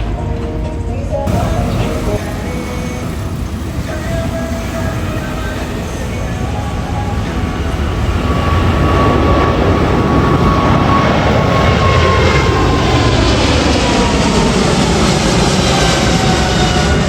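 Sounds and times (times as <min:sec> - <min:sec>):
high jet whine: 0:00.0 - 0:17.0
jet engine roar: 0:00.0 - 0:17.0.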